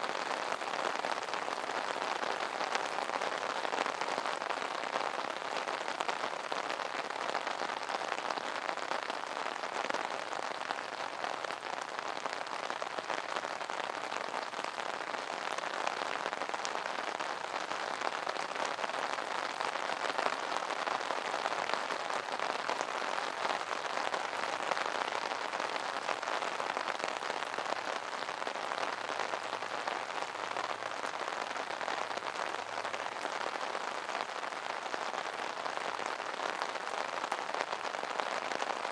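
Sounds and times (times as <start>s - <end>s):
rain pattering on umbrella: 0.0s - 38.9s.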